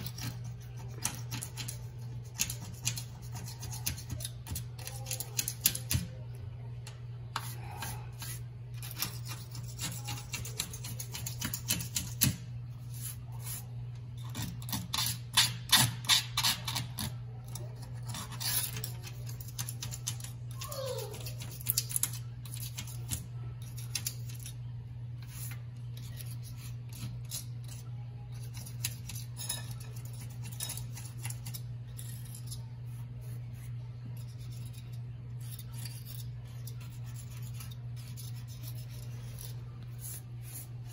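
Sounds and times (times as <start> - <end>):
razor blade scraping caulk: 0.0 - 6.1, 7.3 - 20.4, 25.2 - 40.9.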